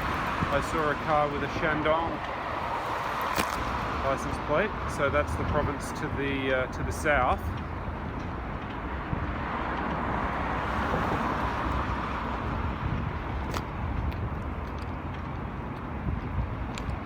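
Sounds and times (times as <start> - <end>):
cars passing: 0.0 - 17.0
steady low rumble: 0.0 - 17.0.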